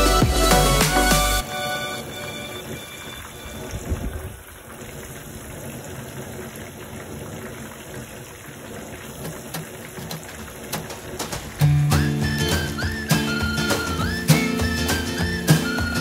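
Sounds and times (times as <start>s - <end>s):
hot oil sizzling and bubbling: 2.0s - 16.0s.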